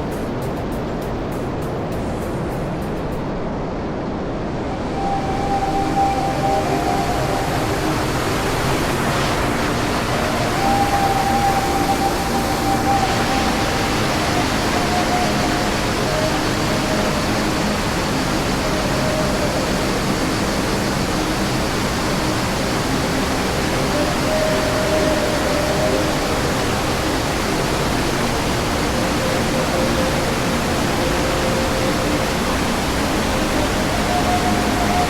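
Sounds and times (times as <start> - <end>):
waterfall rushing: 4.5 - 35.0.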